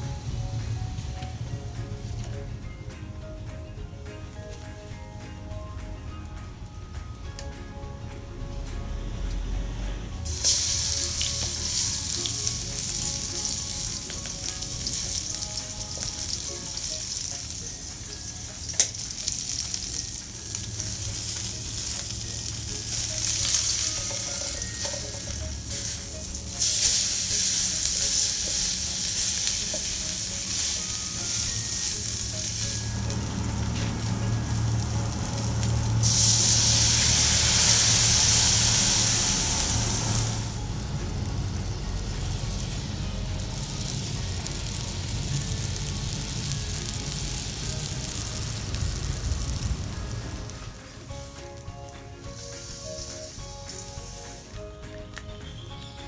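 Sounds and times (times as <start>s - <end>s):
patties sizzling: 0.0s - 56.0s.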